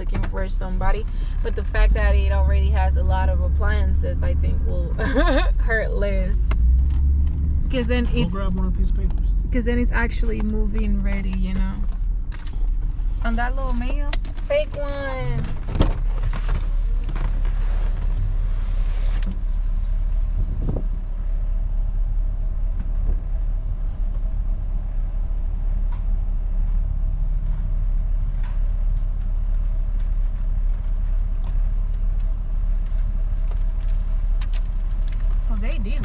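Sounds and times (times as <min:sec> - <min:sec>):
truck engine low rumble: 0:00.0 - 0:36.0.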